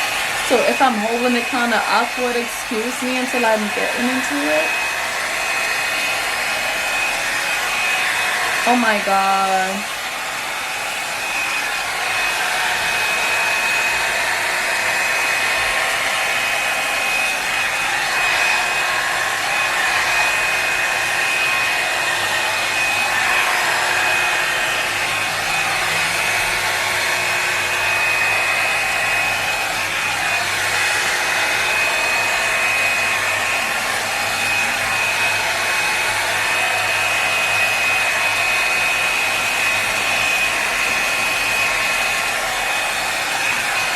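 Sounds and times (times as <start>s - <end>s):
hot air brush whining: 0.0s - 43.9s.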